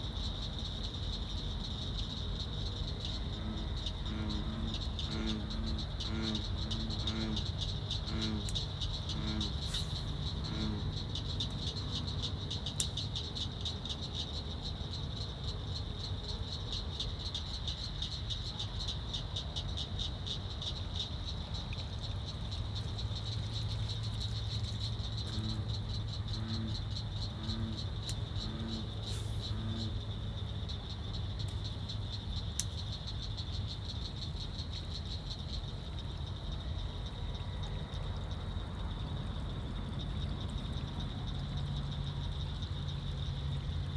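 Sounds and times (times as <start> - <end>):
insects trilling: 0.0 - 43.9
frog croaking: 2.9 - 14.9, 17.0 - 43.9.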